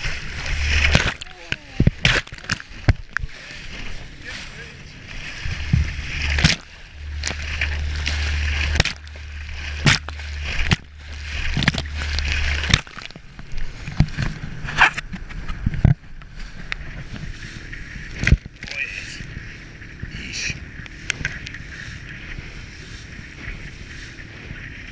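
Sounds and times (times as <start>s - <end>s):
boat hull slapping through water: 0.0s - 24.9s
steady low rumble: 0.0s - 24.9s.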